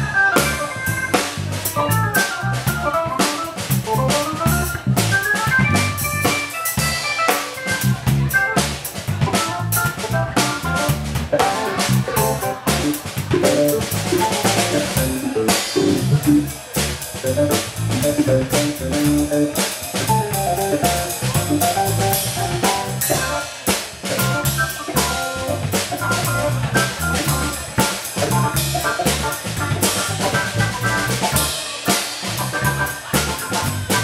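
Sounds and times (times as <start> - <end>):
electric organ melody: 0.0 - 16.6, 17.2 - 31.6, 32.2 - 34.0
drum kit playing: 0.0 - 34.0
electric bass: 0.0 - 34.0.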